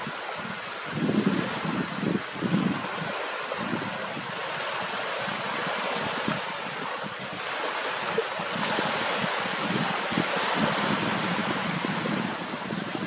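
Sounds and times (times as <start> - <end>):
water lapping: 0.0 - 13.0
wind gusts buffeting microphone: 0.0 - 13.0
wind hiss: 0.0 - 13.0.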